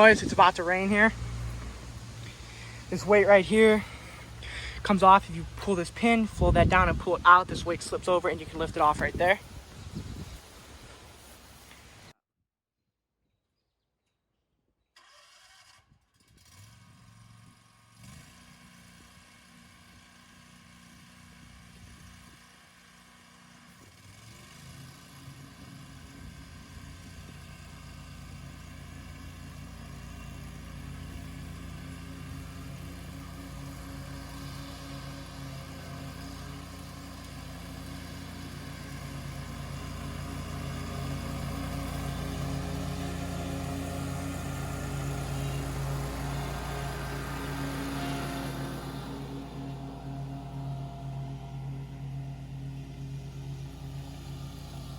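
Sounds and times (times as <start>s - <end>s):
mower engine starting and running: 0.0s - 12.1s, 15.0s - 54.9s.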